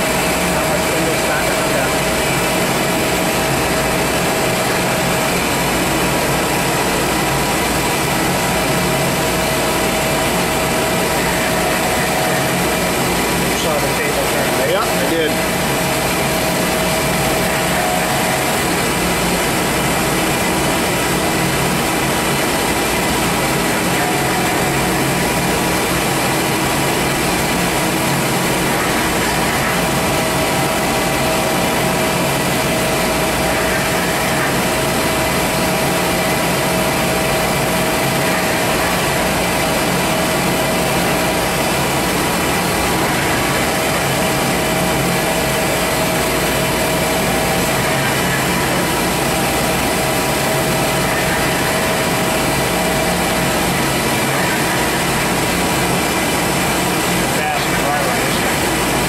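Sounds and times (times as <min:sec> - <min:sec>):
lathe machine humming: 0:00.0 - 0:59.0.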